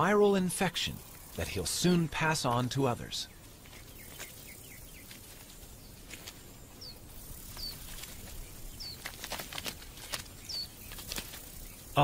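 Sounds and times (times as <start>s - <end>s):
small bird chirping: 1.0s - 12.0s.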